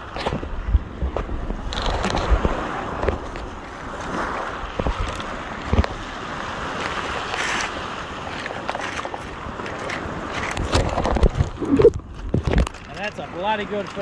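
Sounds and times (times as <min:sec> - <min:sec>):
wind buffeting microphone: 0:00.0 - 0:13.3
waves washing over pebbles: 0:00.0 - 0:14.0.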